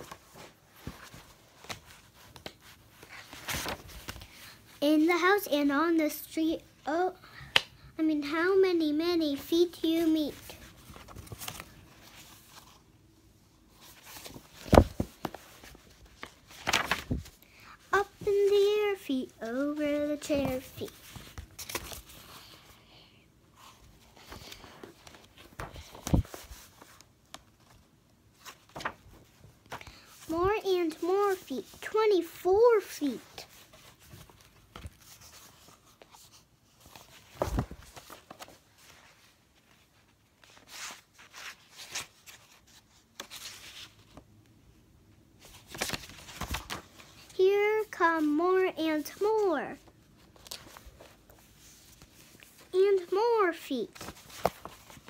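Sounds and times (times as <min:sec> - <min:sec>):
paper pages rustling: 0:00.0 - 0:05.4, 0:09.3 - 0:12.9, 0:13.6 - 0:22.8, 0:23.6 - 0:44.4, 0:45.4 - 0:48.4, 0:49.0 - 0:55.0.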